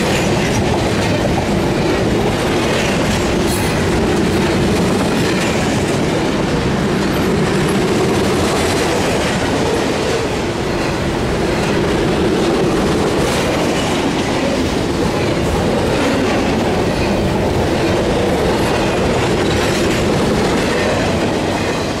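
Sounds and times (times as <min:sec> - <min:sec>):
train wheels rumbling on rail: 0:00.0 - 0:22.0
wheels clacking over rail joints: 0:00.0 - 0:22.0.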